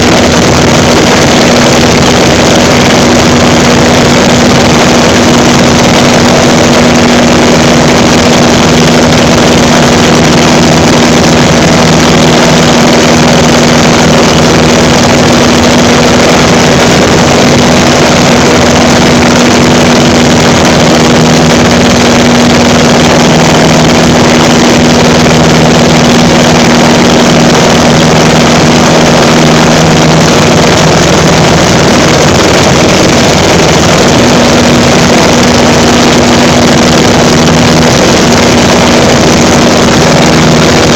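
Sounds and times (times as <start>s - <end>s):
propeller plane engine droning: 0.0s - 40.9s
steady hum: 0.0s - 40.9s
wind rush over microphone: 0.0s - 40.9s.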